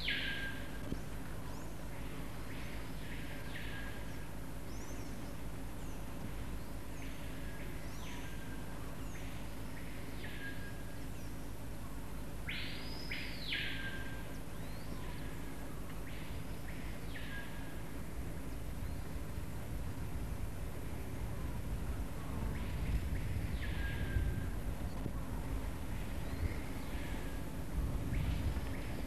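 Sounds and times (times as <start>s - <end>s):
bird calling: 0.0s - 19.3s, 22.0s - 29.0s
steady low hum: 0.0s - 29.0s.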